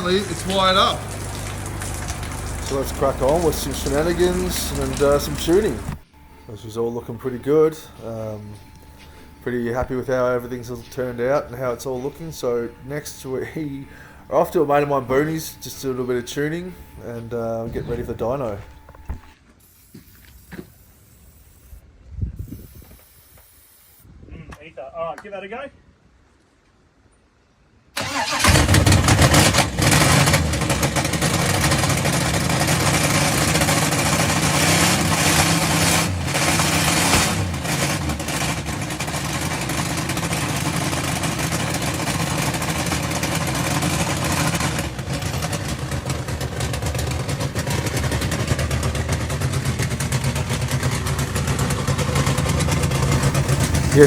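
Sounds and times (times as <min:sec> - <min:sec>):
car engine starting and running: 0:00.0 - 0:19.3, 0:28.0 - 0:54.0.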